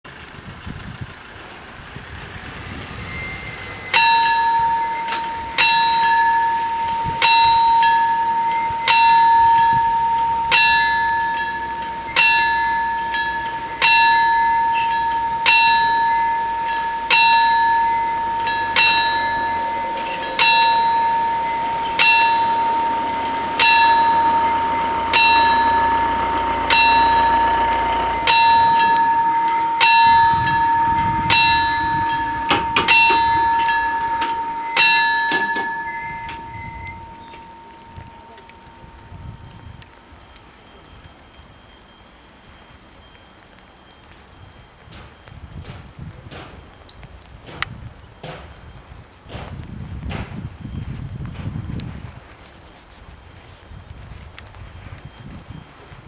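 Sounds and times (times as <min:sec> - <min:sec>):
level crossing warning bell: 0:00.2 - 0:56.0.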